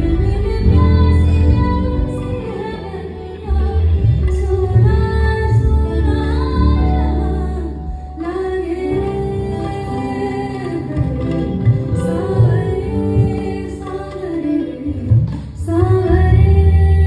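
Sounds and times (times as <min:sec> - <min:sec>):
instrumental backing with bass: 0:00.0 - 0:17.0
woman singing: 0:00.0 - 0:17.0.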